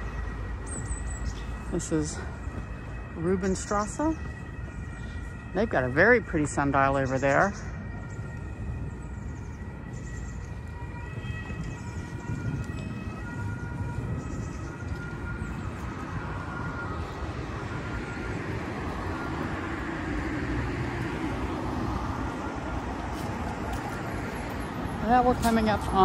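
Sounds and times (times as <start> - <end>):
city road traffic: 0.0 - 26.0
emergency vehicle siren: 0.0 - 26.0.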